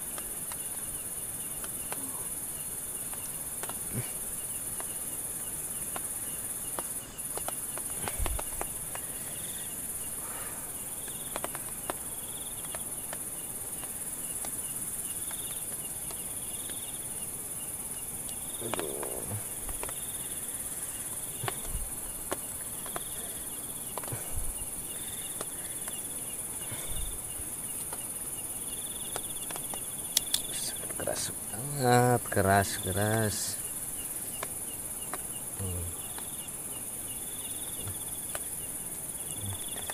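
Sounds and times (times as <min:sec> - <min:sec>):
loud insect chirps: 0:00.0 - 0:39.9
night insects chorus: 0:00.0 - 0:39.9.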